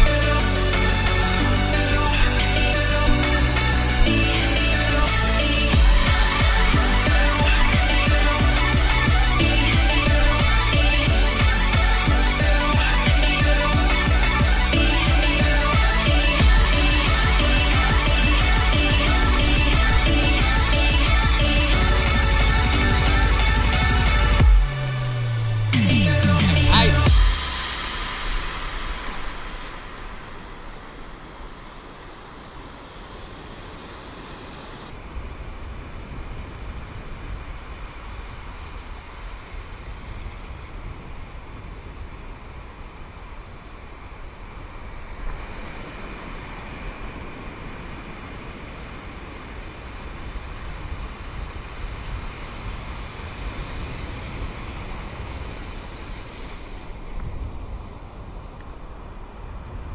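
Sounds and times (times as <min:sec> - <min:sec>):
wind rumbling on microphone: 0:00.0 - 0:25.8, 0:27.0 - 0:59.9
ocean surf washing: 0:00.0 - 0:59.9.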